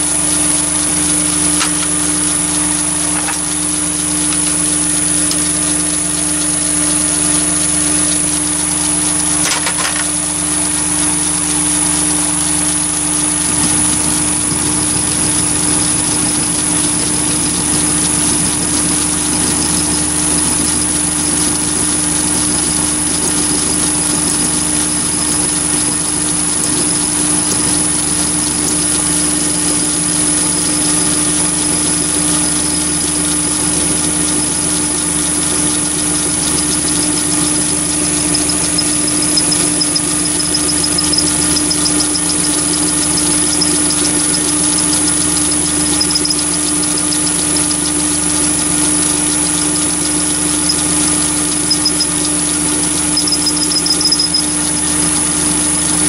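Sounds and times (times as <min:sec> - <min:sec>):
lathe motor whining: 0:00.0 - 0:56.0.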